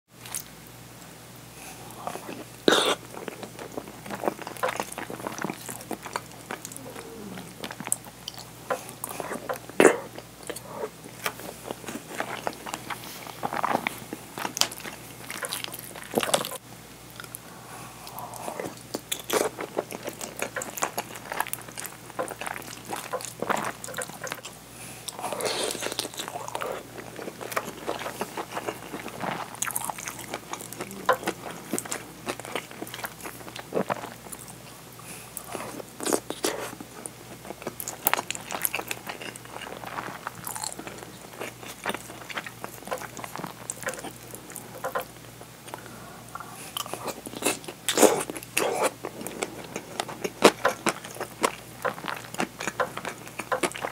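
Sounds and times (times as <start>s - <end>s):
wet chewing and crunching: 1.9s - 17.4s, 18.0s - 53.9s.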